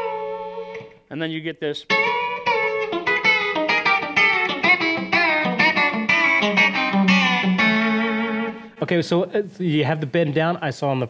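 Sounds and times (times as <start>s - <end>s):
electric guitar with string bends: 0.0s - 9.1s.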